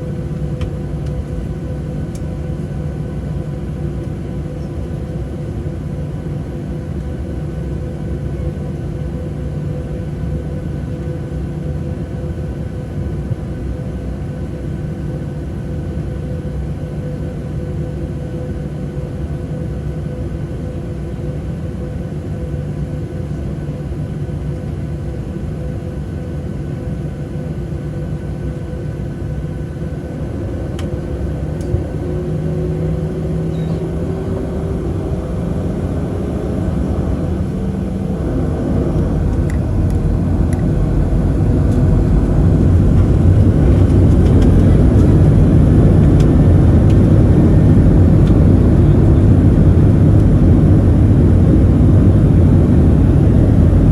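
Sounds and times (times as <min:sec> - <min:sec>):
jet engines whining and rumbling: 0:00.0 - 0:53.9.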